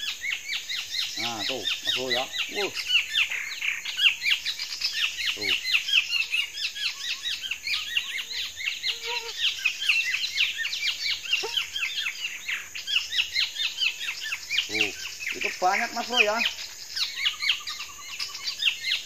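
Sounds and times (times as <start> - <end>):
small birds chirping rapidly: 0.0 - 19.0.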